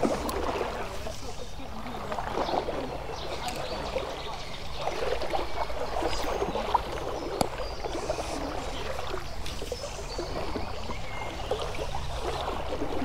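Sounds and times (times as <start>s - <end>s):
stream burbling: 0.0s - 13.0s.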